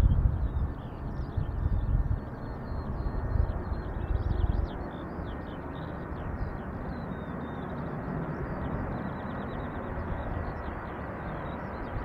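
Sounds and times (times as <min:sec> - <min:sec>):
distant jet engines rumbling: 0:00.0 - 0:12.0
small birds chirping: 0:00.1 - 0:12.0.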